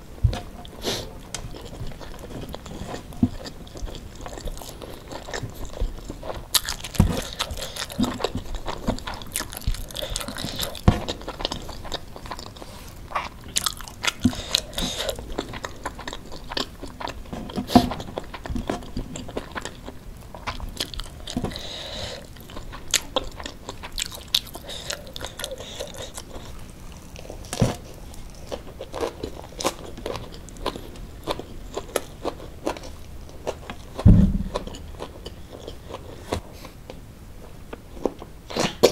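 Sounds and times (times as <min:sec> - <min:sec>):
chewing and crunching: 0:00.6 - 0:37.0.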